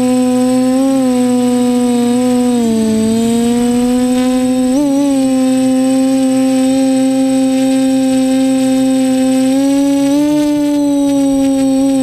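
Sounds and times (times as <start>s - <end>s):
quadcopter motors humming: 0.0s - 12.0s.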